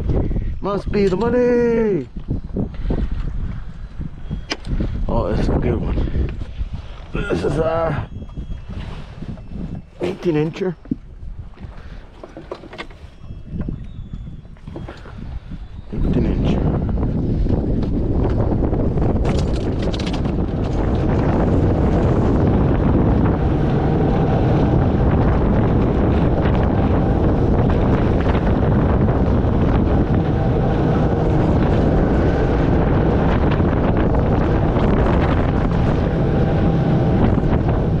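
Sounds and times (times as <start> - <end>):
wind buffeting microphone: 0.0 - 38.0
boat motor running: 7.0 - 38.0.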